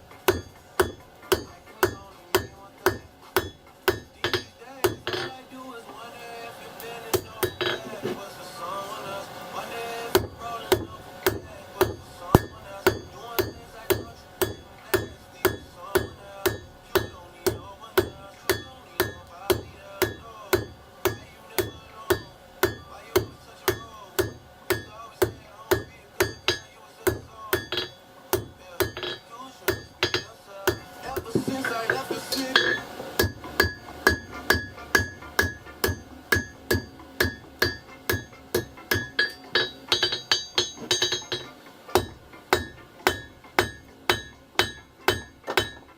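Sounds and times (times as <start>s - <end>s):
hammer ringing on anvil: 0.2s - 5.4s, 7.1s - 8.0s, 10.1s - 45.9s.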